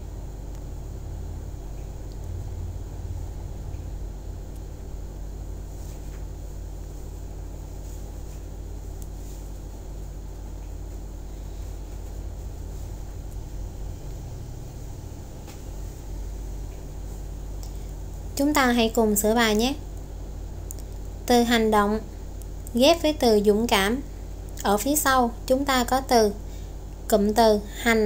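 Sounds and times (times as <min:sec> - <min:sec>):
low rumble and hum: 0:00.0 - 0:28.0.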